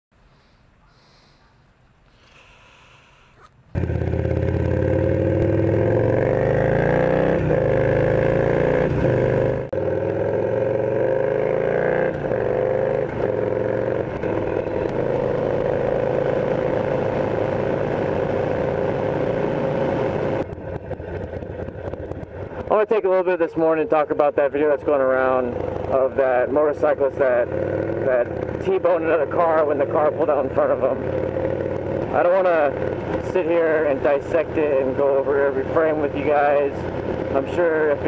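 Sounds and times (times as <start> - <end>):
motorcycle engine accelerating: 3.7 - 38.0.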